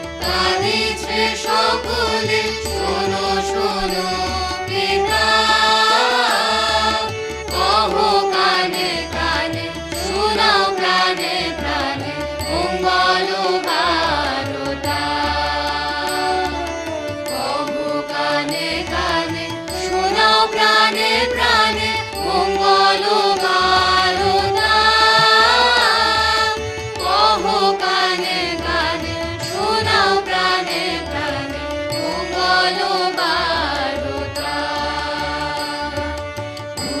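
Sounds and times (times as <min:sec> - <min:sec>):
melodic vocal line: 0:00.3 - 0:15.0, 0:17.4 - 0:35.9.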